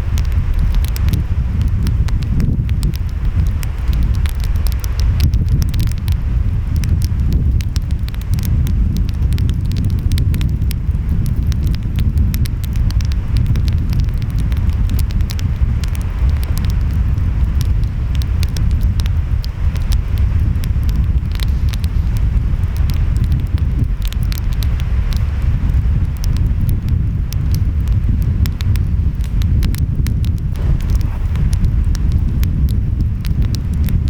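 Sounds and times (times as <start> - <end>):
wind: 0.0 - 34.0
wood fire crackling and popping: 0.0 - 34.0.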